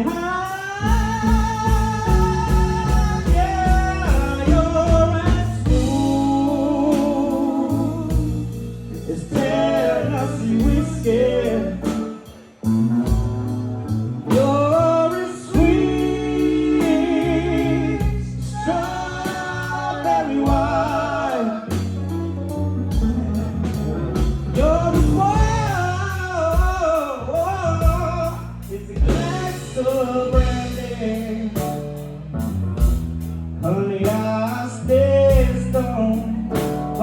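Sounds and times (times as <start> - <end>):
person singing: 0.0 - 13.4, 14.2 - 32.0
bass: 0.0 - 37.0
guitar: 0.0 - 37.0
steady drum beat: 0.0 - 37.0.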